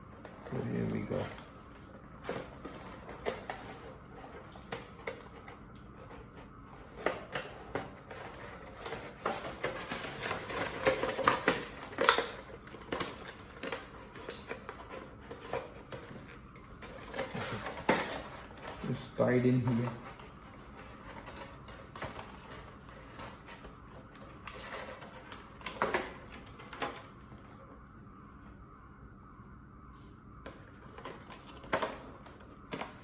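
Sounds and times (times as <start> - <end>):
packaging clicks and rustles: 0.2 - 27.6.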